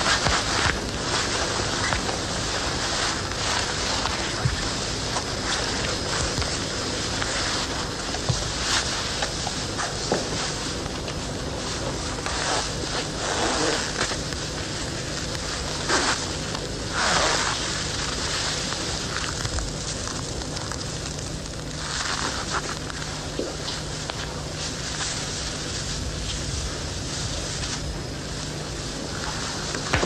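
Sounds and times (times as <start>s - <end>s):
low hum: 0.0s - 30.0s
old recording hiss and crackle: 0.0s - 30.0s.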